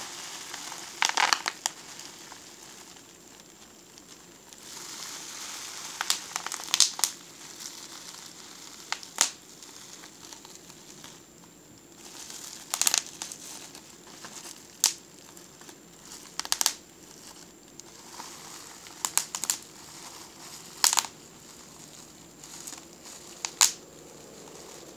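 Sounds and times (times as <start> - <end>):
bubble wrap crinkling: 0.0 - 24.9
bubble wrap popping: 0.0 - 24.9.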